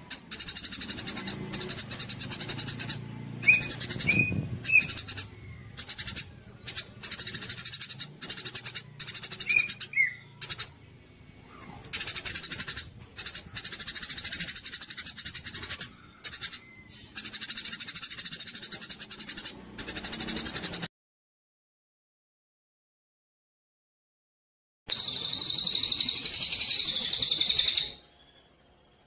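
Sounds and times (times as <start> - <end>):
small songbird trilling: 0.0 - 20.9, 24.9 - 29.0.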